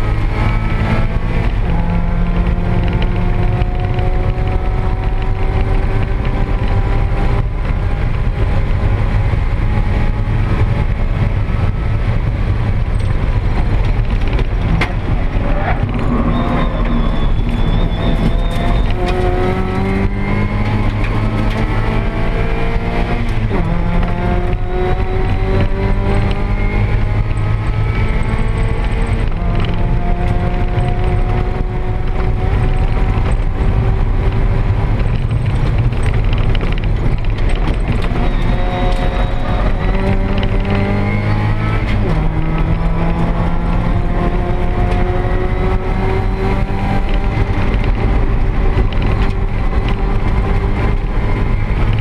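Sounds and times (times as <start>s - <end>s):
car engine pulling hard: 0.0s - 52.0s
constant low drone: 0.0s - 52.0s.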